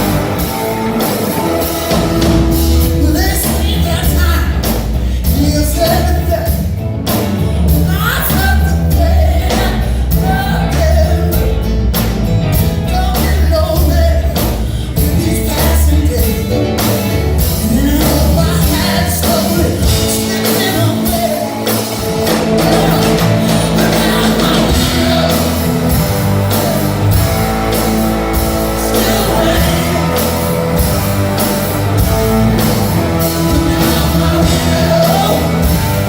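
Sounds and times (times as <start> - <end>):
heavy bass line: 0.0 - 36.0
live band playing rock music: 0.0 - 36.0
steady drum beat: 0.0 - 36.0
man singing: 1.4 - 11.7, 12.8 - 36.0.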